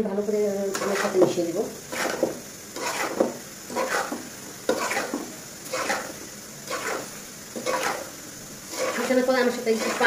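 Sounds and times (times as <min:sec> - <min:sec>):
metal spatula scraping pan: 0:00.7 - 0:08.1, 0:08.7 - 0:10.0.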